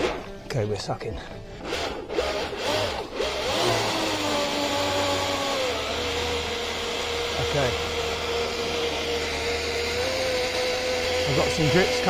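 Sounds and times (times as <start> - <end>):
electric motor whine: 1.6 - 12.0.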